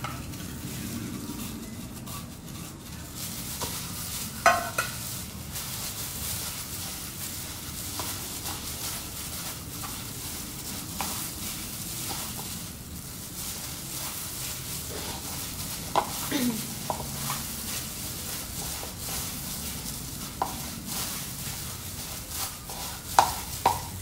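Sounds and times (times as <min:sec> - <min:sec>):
plastic glove crackling: 0:00.0 - 0:24.0
food squelching: 0:00.5 - 0:24.0.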